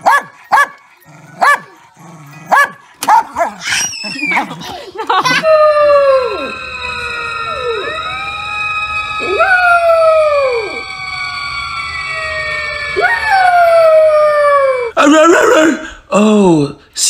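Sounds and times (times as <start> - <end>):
puppy howling: 0.1 - 15.0.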